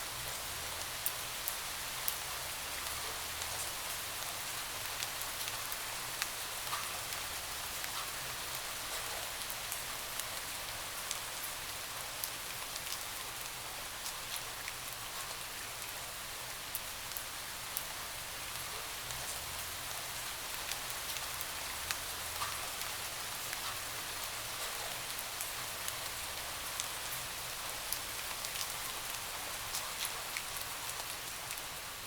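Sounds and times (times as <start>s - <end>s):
rain on a window: 0.0s - 32.0s.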